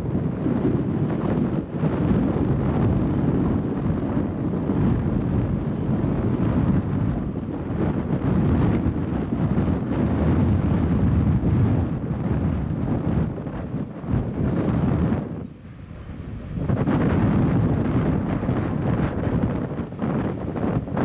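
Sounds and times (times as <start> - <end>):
freight train rumbling over bridge: 0.0 - 21.0
wind buffeting microphone: 0.0 - 21.0.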